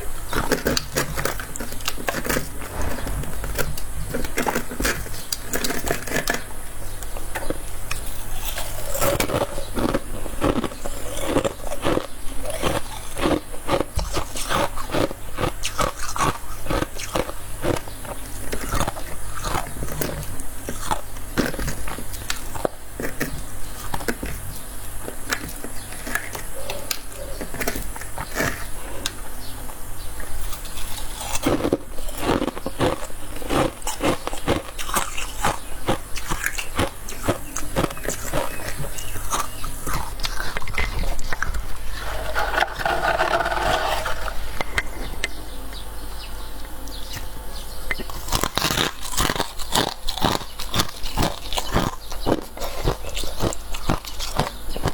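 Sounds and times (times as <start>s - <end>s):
faint low hum: 0.0s - 54.9s
chewing frost crunches: 7.1s - 44.7s, 47.9s - 54.9s.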